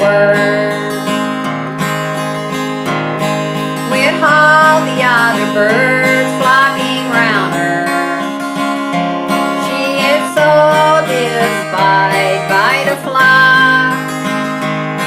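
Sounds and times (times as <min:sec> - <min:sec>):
sliding lead melody: 0:00.0 - 0:15.0
strummed acoustic guitar: 0:00.0 - 0:15.0.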